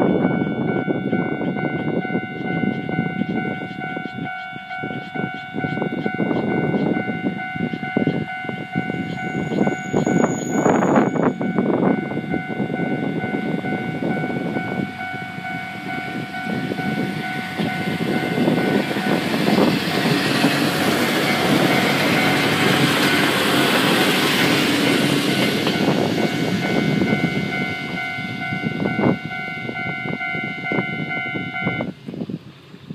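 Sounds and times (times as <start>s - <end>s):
level crossing warning bell: 0.0s - 32.0s
train rumble: 0.0s - 32.9s.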